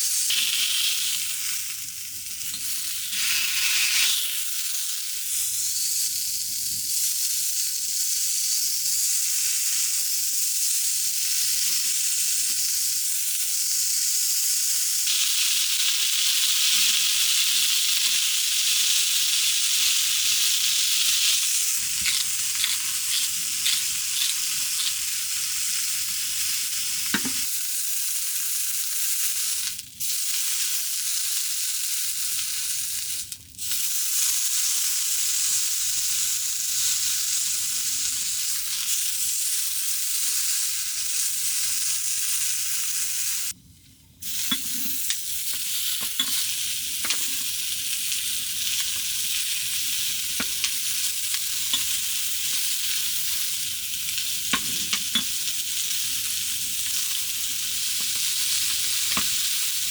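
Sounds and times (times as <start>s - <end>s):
food sizzling in a pan: 0.0s - 43.6s, 44.2s - 59.9s.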